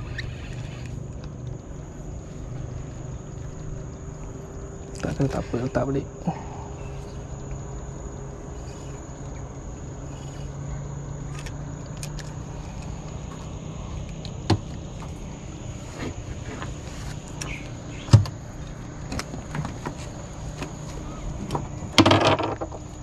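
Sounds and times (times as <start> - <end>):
low steady hum: 0.0 - 23.0
night insects chirring: 0.0 - 23.0.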